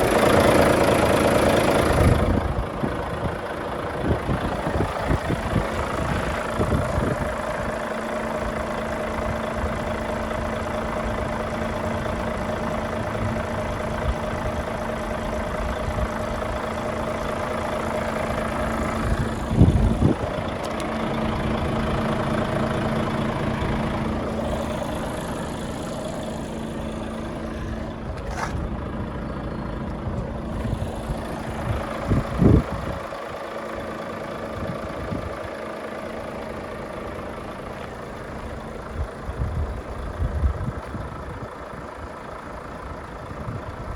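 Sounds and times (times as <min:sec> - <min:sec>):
truck diesel engine idling: 0:00.0 - 0:43.9.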